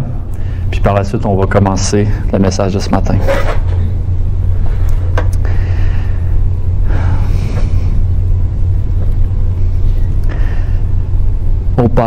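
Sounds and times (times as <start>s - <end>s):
sound system low hum: 0.0s - 12.0s.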